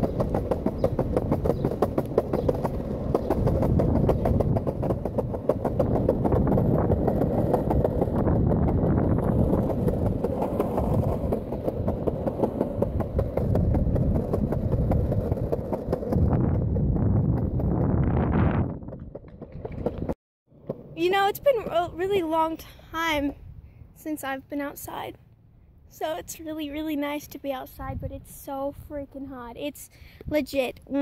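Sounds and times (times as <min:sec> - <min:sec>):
skateboard wheels rolling on concrete: 0:00.0 - 0:25.2, 0:25.9 - 0:31.0.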